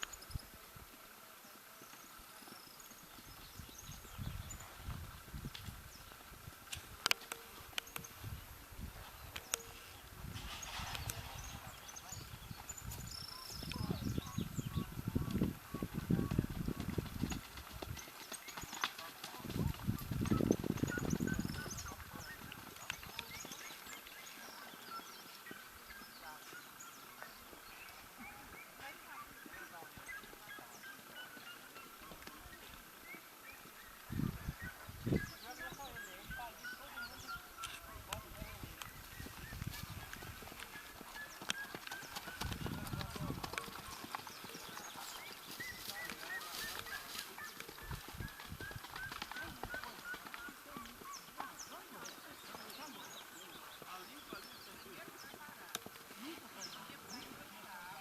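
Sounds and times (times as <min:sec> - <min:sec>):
small birds chirping: 0:00.0 - 0:58.0
horse hoofbeats: 0:10.8 - 0:58.0.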